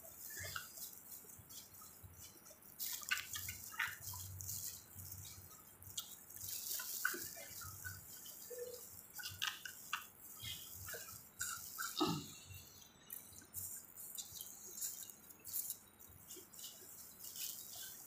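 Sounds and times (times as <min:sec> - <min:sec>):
chewing and lip smacks: 0:00.2 - 0:18.0.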